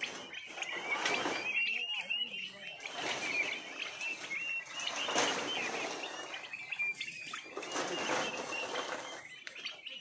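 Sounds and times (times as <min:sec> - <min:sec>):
turkey poults peeping: 0:00.0 - 0:10.0.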